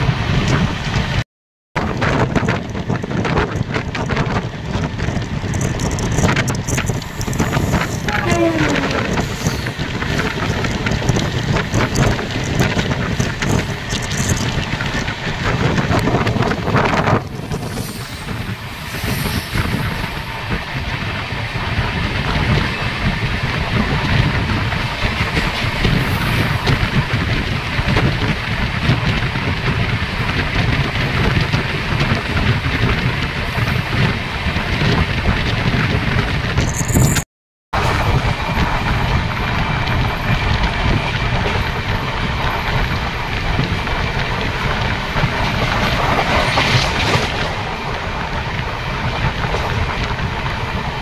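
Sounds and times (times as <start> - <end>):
train running rumble: 0.0 - 1.2, 1.8 - 37.2, 37.8 - 51.0.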